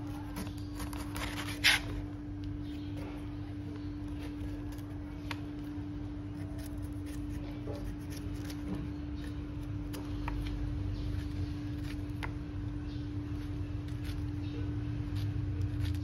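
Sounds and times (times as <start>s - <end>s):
knife scraping pineapple skin: 0.0s - 3.2s, 4.0s - 16.0s
steady low hum: 0.0s - 16.0s.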